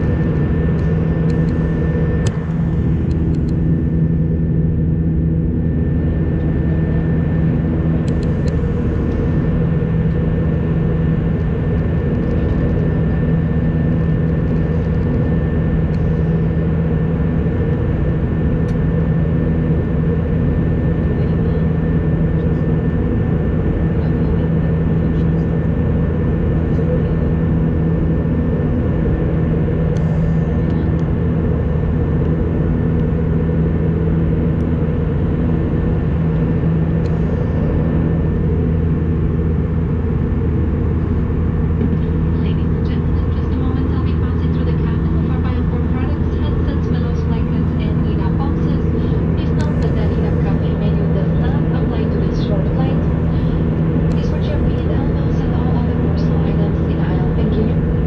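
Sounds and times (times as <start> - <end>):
jet engine drone: 0.0 - 58.0
low hum: 0.0 - 58.0.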